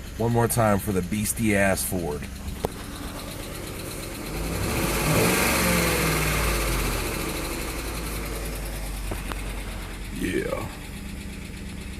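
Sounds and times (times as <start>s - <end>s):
car engine revving: 0.9s - 11.9s.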